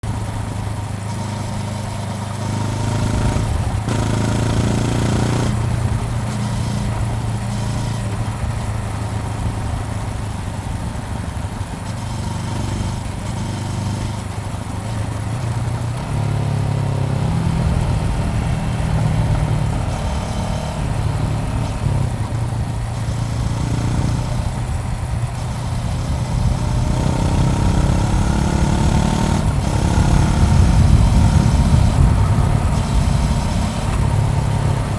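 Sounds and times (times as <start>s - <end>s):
motorcycle engine running: 0.0s - 34.9s
wind or road noise: 0.0s - 34.9s.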